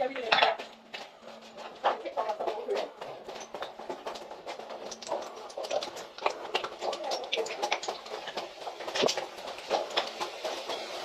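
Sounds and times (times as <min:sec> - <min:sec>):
footsteps on loose slate: 0:00.0 - 0:11.0.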